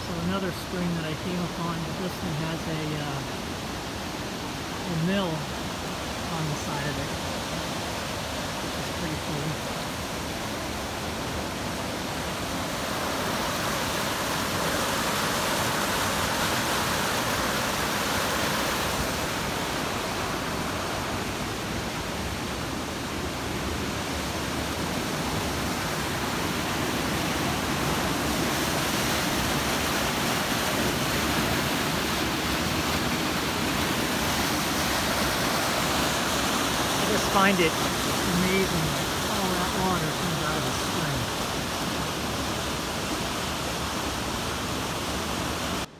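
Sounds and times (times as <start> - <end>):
water rushing from spring: 0.0 - 45.9.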